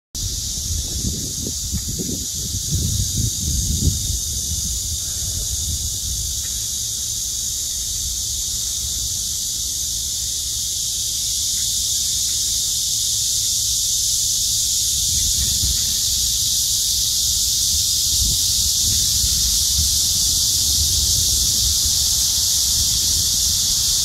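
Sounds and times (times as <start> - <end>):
cicadas buzzing: 0.2 - 24.0.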